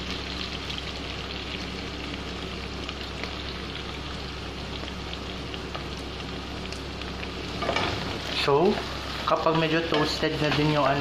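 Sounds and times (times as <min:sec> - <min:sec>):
meat sizzling in oil: 0:00.0 - 0:11.0
oil crackling and popping: 0:00.0 - 0:11.0.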